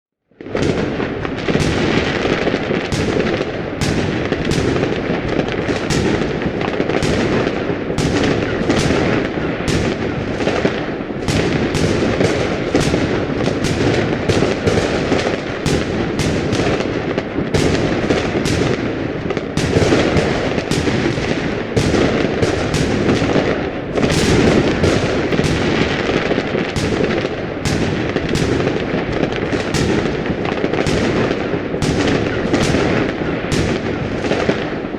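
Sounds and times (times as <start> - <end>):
fireworks crackling and banging: 0.3 - 34.9.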